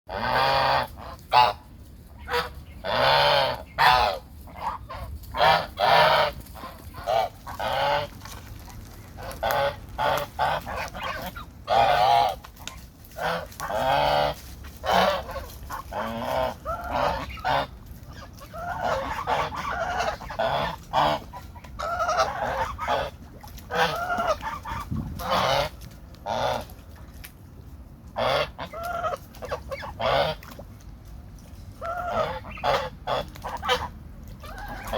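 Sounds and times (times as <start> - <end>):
geese honking: 0.1 - 8.2, 9.2 - 26.7, 28.1 - 30.6, 31.8 - 34.9.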